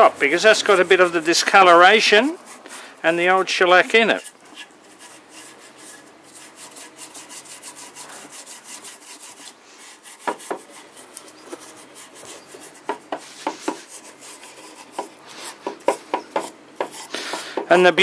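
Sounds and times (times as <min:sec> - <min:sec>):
steel wool scrubbing wood: 0:00.0 - 0:18.0.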